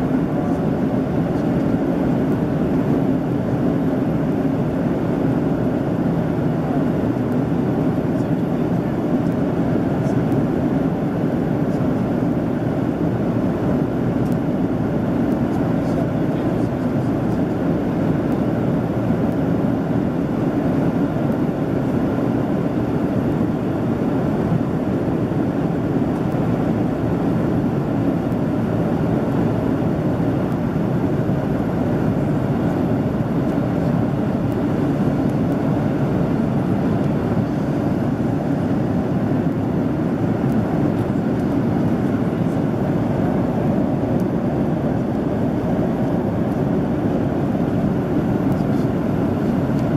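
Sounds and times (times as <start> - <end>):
airplane cabin engine noise: 0.0 - 49.9.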